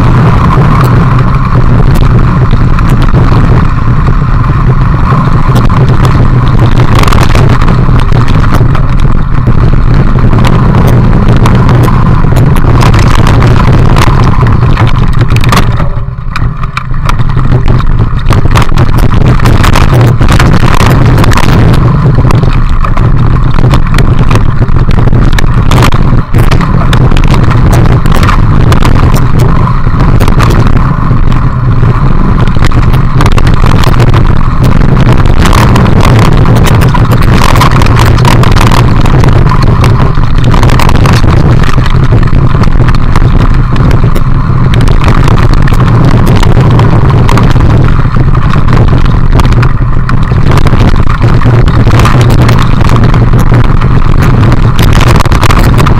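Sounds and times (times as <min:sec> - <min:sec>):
bike rattling and clicking: 0:00.0 - 0:55.9
wind buffeting microphone: 0:00.0 - 0:55.9.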